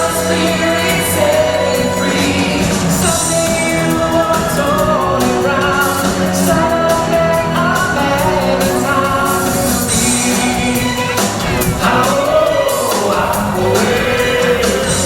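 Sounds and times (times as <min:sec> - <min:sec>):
person singing: 0:00.0 - 0:15.0
pop backing track with beat: 0:00.0 - 0:15.0.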